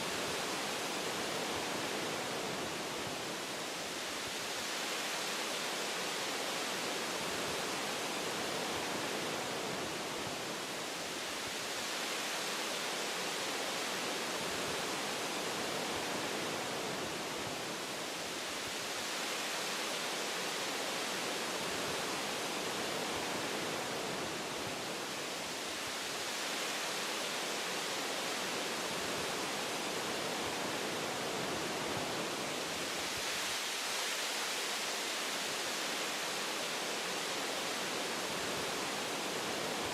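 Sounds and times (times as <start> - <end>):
wind blowing through tree branches: 0.0 - 39.9.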